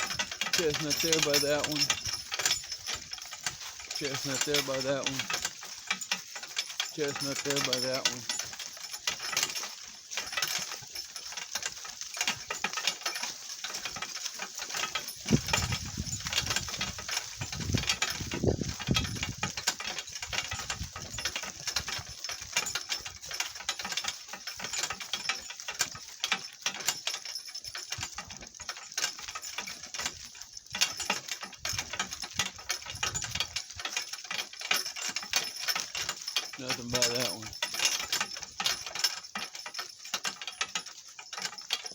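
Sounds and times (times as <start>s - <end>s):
cart rattling over rough ground: 0.0s - 41.9s.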